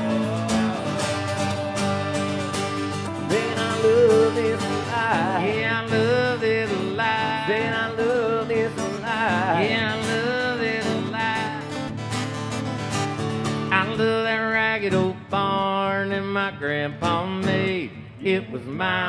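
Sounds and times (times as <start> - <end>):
strummed guitar chords: 0.0 - 18.9.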